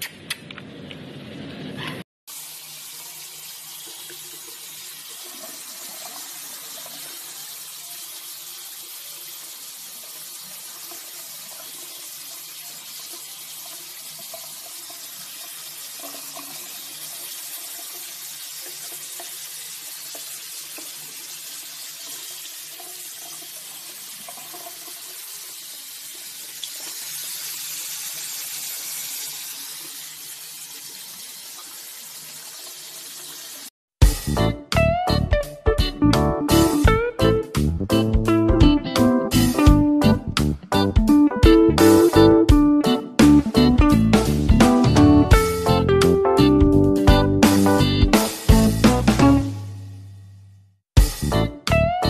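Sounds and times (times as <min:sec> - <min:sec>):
water running from a tap: 0:02.3 - 0:33.8, 0:36.4 - 0:49.5.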